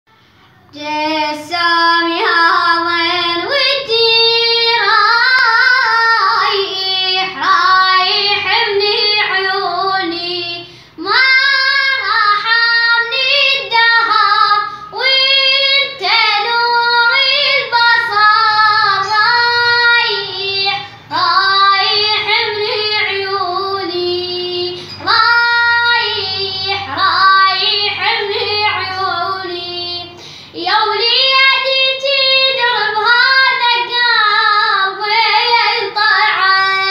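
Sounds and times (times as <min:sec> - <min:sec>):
boy singing unaccompanied: 0:00.4 - 0:36.9.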